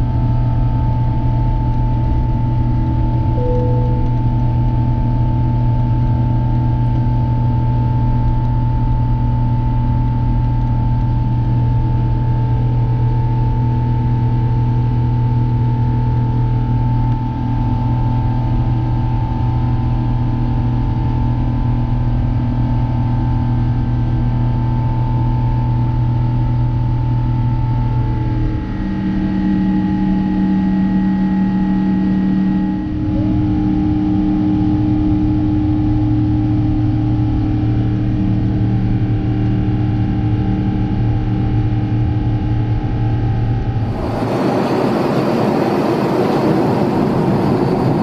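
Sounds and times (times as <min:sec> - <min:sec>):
airliner drone: 0:00.0 - 0:48.0.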